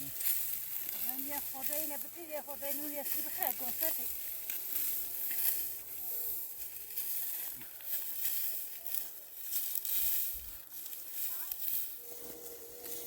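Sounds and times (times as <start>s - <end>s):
rustling and crackling: 0.0s - 13.0s.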